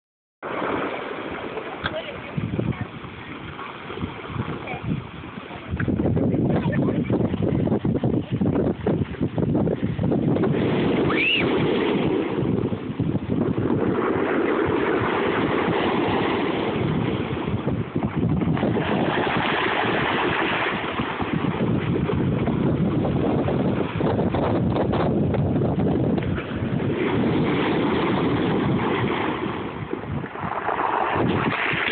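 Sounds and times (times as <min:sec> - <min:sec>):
waves washing over stony beach: 0:00.4 - 0:31.9
wind rumbling on microphone: 0:00.4 - 0:31.9.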